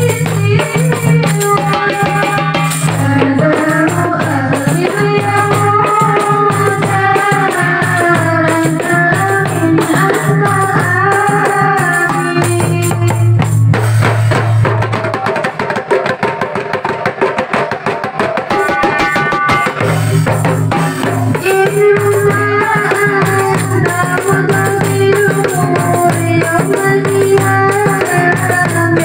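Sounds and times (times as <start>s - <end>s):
frame drums and tambourine: 0.0s - 29.0s.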